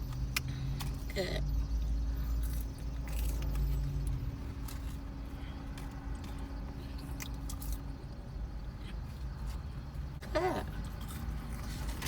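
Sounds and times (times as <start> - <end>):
steady low hum: 0.0 - 12.0
person chewing fries: 2.2 - 12.0.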